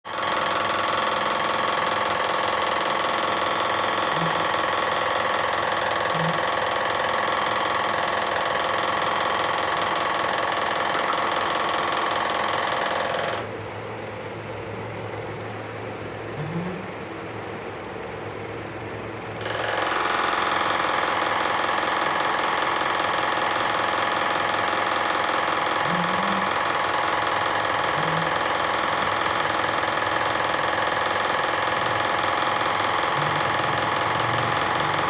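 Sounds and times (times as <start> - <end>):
mechanical running noise: 0.0 - 35.0.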